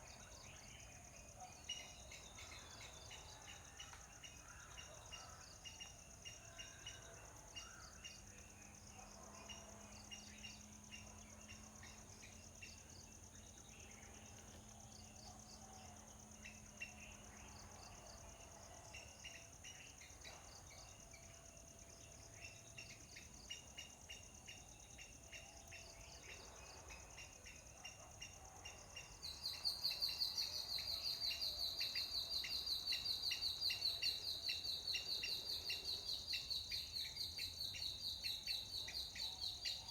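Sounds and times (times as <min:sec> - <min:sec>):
loud pulsing insect trill: 0:06.2 - 0:39.9.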